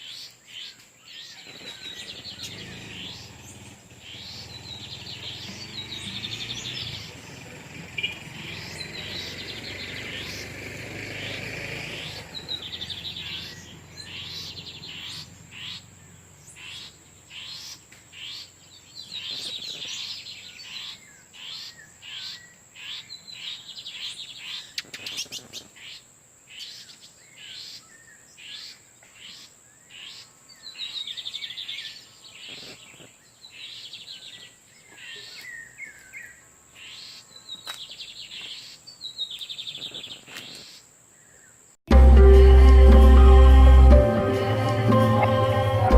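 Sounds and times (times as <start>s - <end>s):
birds singing buzzy notes: 0.0s - 40.8s, 41.9s - 45.9s.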